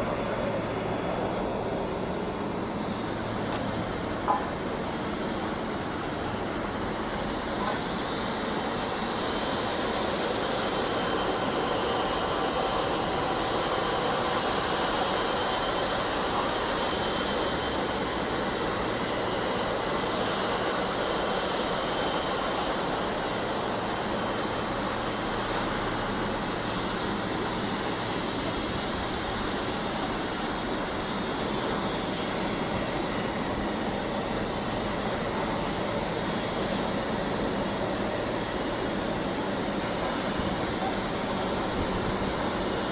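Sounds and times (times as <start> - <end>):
jet engines rushing: 0.0 - 42.9.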